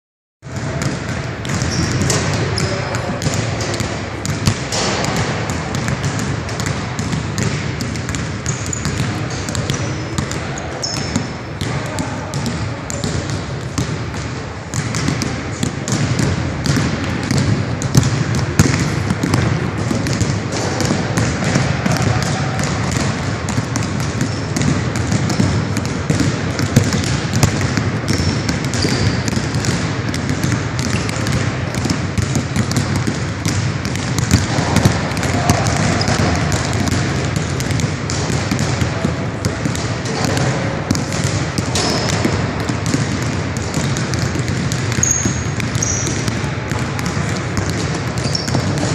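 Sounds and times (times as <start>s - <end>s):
basketballs bouncing on wooden floor: 0.4s - 48.9s.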